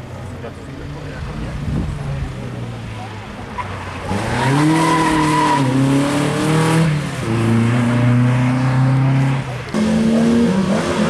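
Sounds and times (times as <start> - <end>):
rally car engine accelerating: 0.9 - 11.0.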